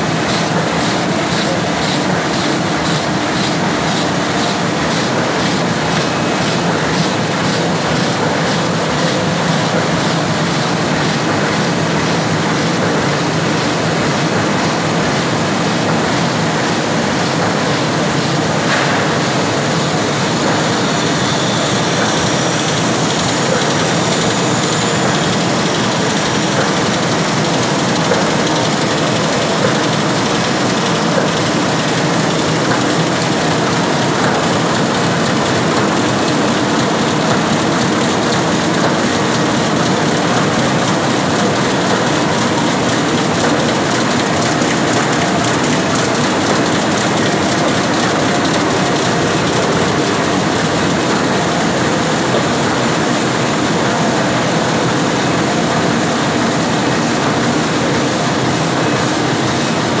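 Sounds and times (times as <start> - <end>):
printing press running: 0.0 - 60.0.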